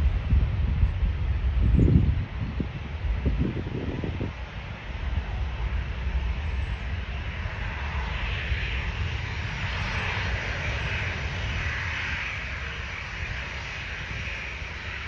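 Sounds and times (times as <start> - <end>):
steady low rumble: 0.0 - 15.0
jet engine rushing hiss: 2.3 - 15.0.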